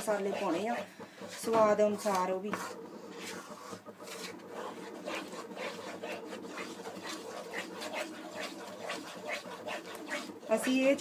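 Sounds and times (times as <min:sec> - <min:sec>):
spoon scraping a metal pan: 0:00.0 - 0:11.0.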